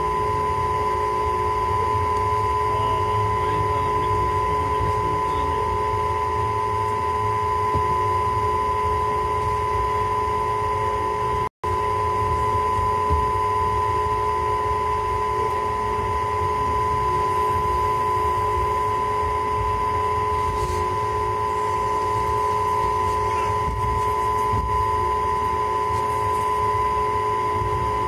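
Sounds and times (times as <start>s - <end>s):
high-pitched hum: 0.0s - 28.0s.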